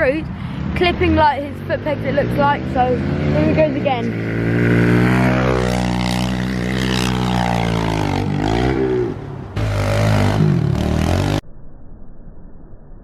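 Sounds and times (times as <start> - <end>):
dirt bike engine revving: 0.8 - 11.4.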